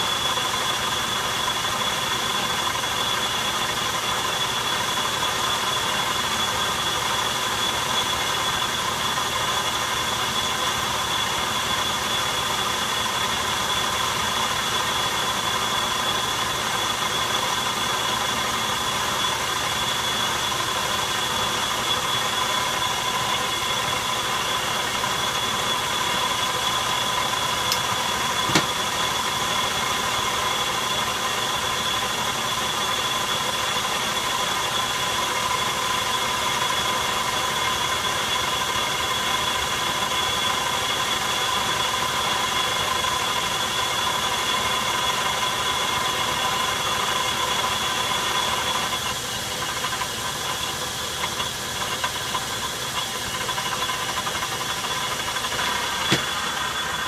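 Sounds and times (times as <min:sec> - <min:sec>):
cutting tool whine: 0:00.0 - 0:57.0
metal lathe running: 0:00.0 - 0:57.0.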